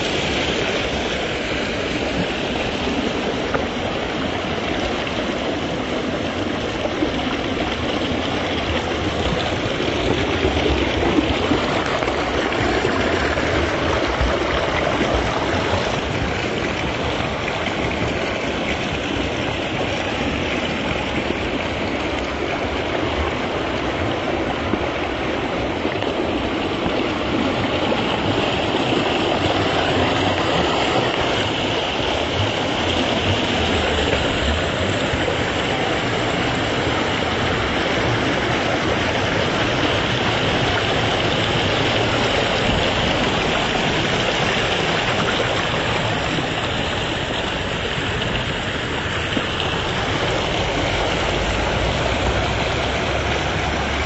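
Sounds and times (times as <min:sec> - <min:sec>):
creek water rushing and splashing: 0:00.0 - 0:54.0.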